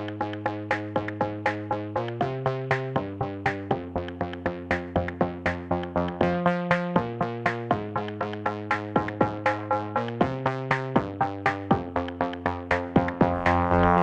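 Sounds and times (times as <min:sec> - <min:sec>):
electronic synthesizer music: 0:00.0 - 0:14.0.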